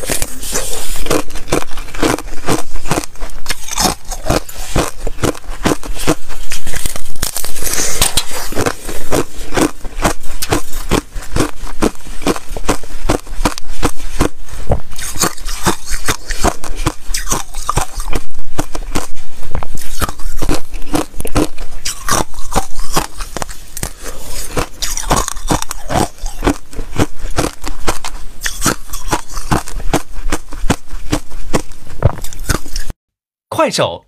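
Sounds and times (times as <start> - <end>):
ice being chewed: 0.0 - 33.0.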